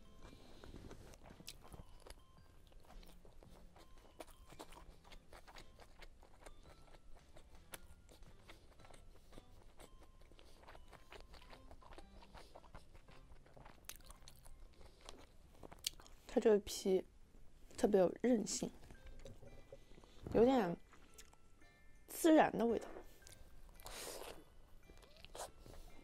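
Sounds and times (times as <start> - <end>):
mouth chewing sounds: 0.0 - 16.3, 18.8 - 21.4, 22.8 - 26.0.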